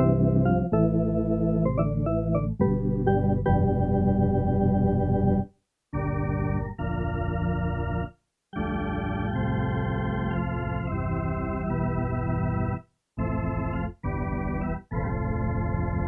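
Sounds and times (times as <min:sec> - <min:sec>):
organ chords: 0:00.0 - 0:16.0.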